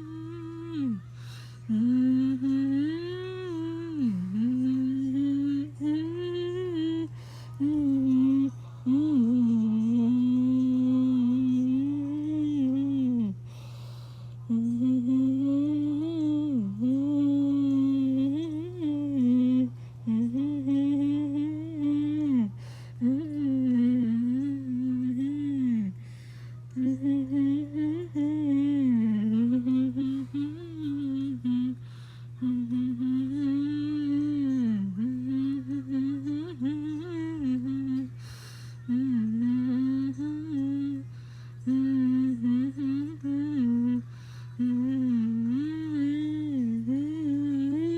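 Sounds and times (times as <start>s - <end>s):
person humming a melody: 0.0s - 47.9s.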